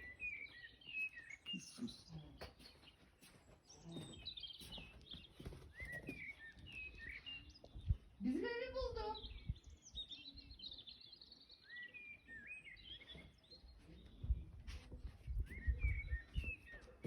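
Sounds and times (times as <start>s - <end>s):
faint outdoor background noise: 0.0s - 17.0s
small birds chirping: 0.0s - 17.0s.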